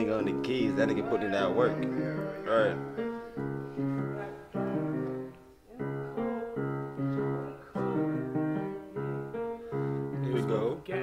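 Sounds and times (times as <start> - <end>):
grand piano slow chords: 0.0 - 11.0.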